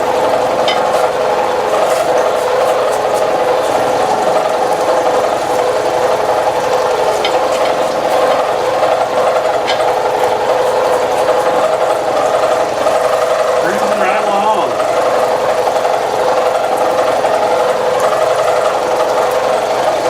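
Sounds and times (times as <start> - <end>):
milling machine drone: 0.0 - 20.0.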